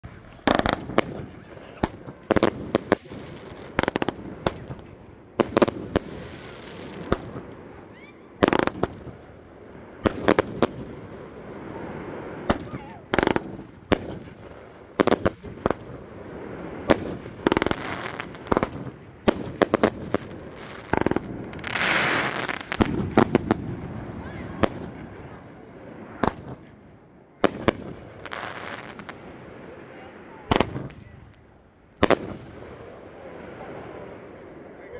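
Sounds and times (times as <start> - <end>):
fireworks bangs: 0.0 - 34.9
rush of fireworks noise: 0.0 - 34.9.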